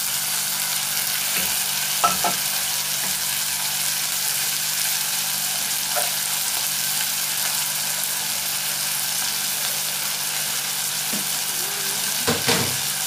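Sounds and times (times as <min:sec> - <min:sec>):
meat and onions sizzling: 0:00.0 - 0:13.0.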